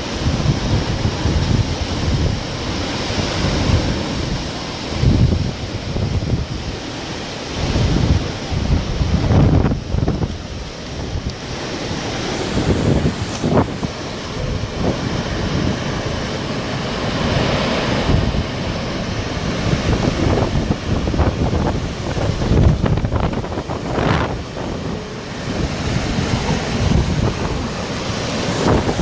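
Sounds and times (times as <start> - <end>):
strong wind gusts: 0.0 - 29.0
wind buffeting microphone: 0.0 - 29.0.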